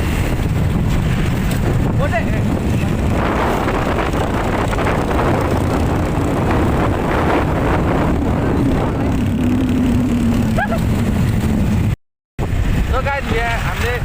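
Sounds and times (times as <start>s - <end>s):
motorcycle engine running: 0.0s - 12.0s
wind buffeting microphone: 0.0s - 14.0s.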